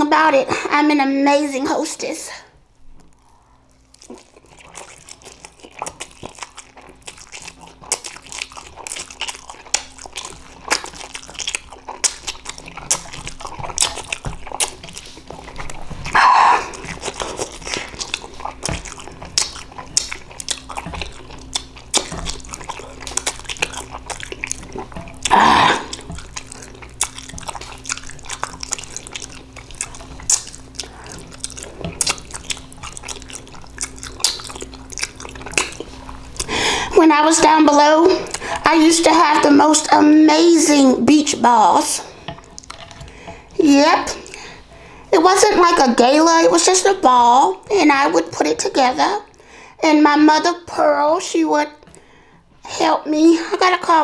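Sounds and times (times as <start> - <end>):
noodles being chewed: 2.3 - 54.0.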